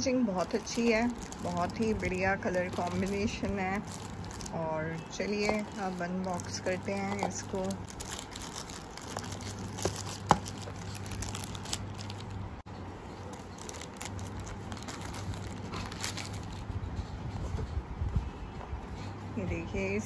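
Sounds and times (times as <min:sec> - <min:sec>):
plastic wrapping crinkling: 0:00.3 - 0:16.9.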